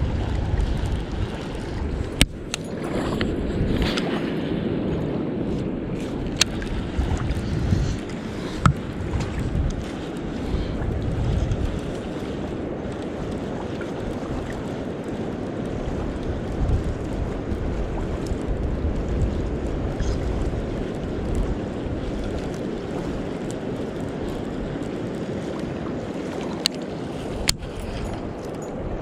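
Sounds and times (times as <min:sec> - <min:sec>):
wind gusting on microphone: 0:00.0 - 0:29.0.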